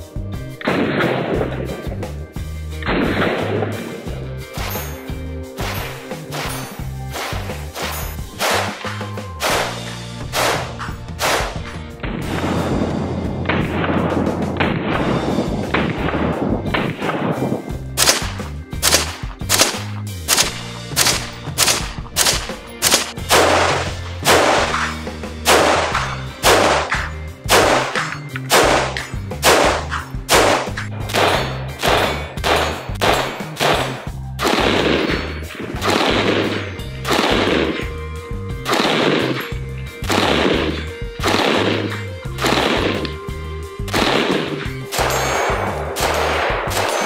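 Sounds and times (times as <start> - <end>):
background music with bass line: 0.0 - 47.0
rifle gunshots with echo: 0.6 - 1.6, 5.6 - 43.2, 43.9 - 47.0.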